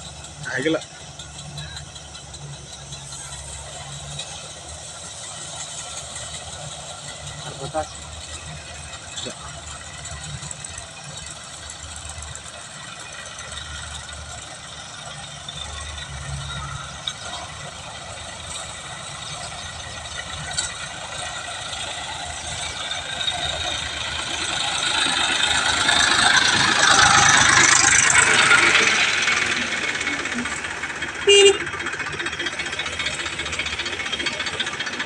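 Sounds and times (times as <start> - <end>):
combine harvester engine whine: 0.0 - 35.0.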